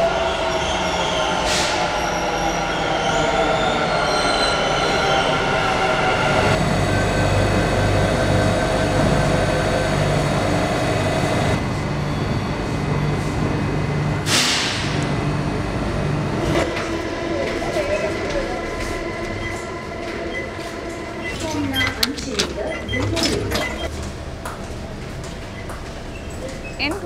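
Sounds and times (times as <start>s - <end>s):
train rumble: 4.8s - 27.0s.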